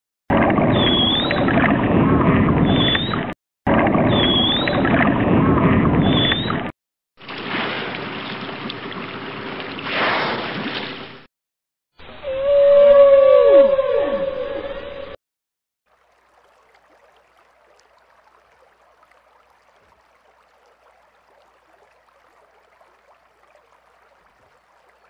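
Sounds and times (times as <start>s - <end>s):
water splashing: 0.3s - 11.3s, 15.9s - 25.0s.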